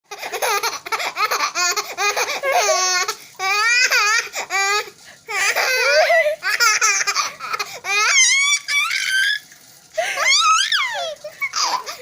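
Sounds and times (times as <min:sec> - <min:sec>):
baby laughing: 0:00.1 - 0:09.4, 0:10.0 - 0:12.0.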